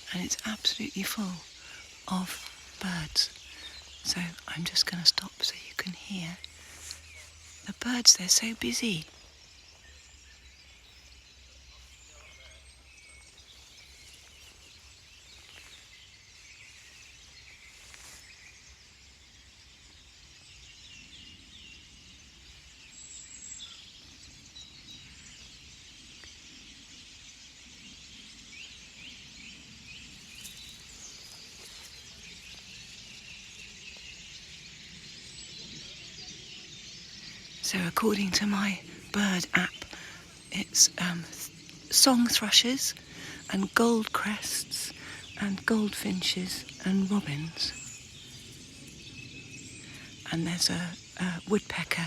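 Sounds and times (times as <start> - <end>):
songbirds chirping and singing: 0.0 - 52.0.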